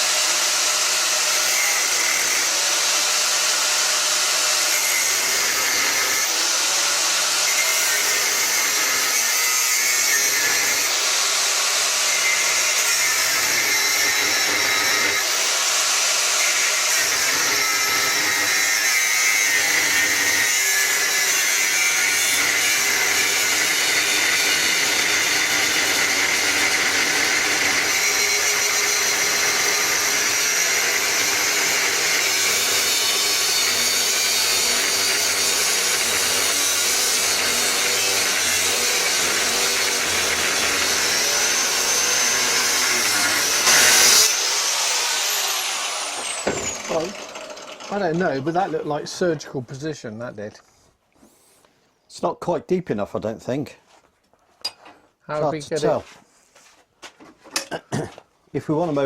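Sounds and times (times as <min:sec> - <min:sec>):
angle grinder cutting steel: 0:00.0 - 0:49.5.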